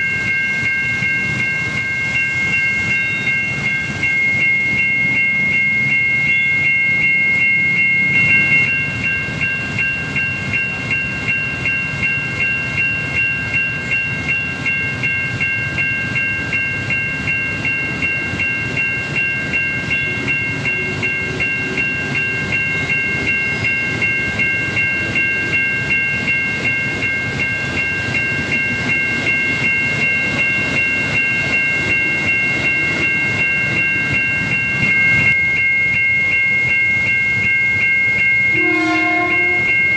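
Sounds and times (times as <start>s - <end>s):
railroad crossing bell ringing: 0.0s - 39.9s
steady high tone: 0.0s - 39.9s.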